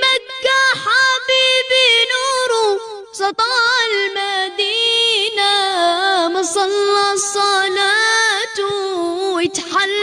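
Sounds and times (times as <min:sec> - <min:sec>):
high voice singing devotional song: 0:00.0 - 0:10.0.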